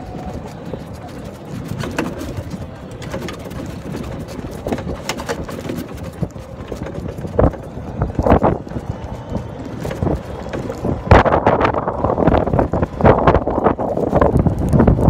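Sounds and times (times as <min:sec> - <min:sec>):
golf cart rattling: 0:00.0 - 0:15.0
low rumble: 0:00.0 - 0:15.0.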